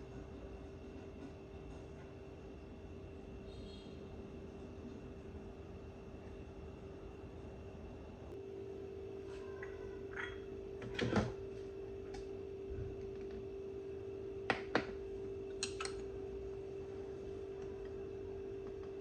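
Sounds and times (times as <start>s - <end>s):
steady even hum: 0.0s - 19.0s.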